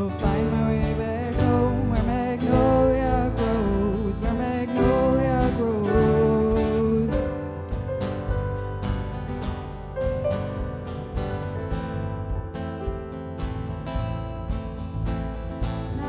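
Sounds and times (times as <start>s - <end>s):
drum kit beat: 0.0s - 16.0s
electric guitar melody: 0.0s - 16.0s.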